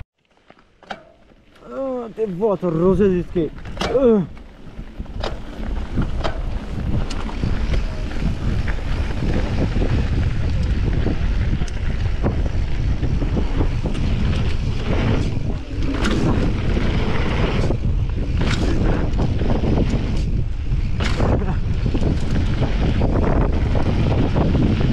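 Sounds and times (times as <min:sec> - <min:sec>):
tyres rolling on dirt trail: 0:00.2 - 0:24.9
bike knocks and rattles: 0:00.4 - 0:01.7, 0:02.4 - 0:24.9
wind rushing over microphone: 0:02.6 - 0:24.9.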